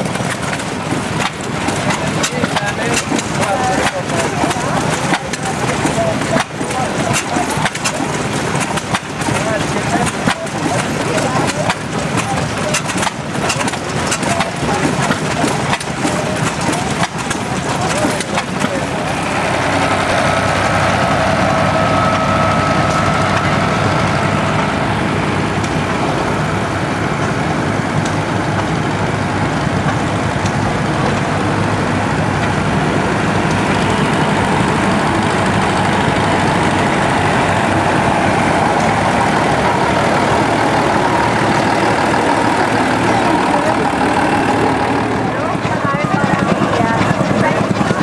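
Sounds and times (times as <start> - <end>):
steady whine: 0.0 - 48.0
tractor engines running: 0.0 - 48.0.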